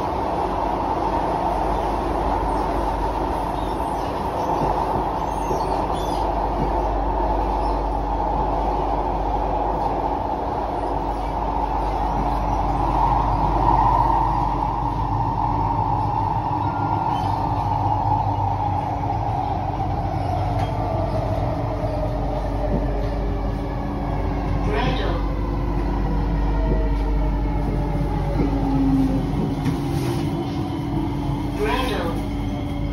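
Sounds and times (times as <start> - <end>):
train rumble and rail noise: 0.0 - 32.9.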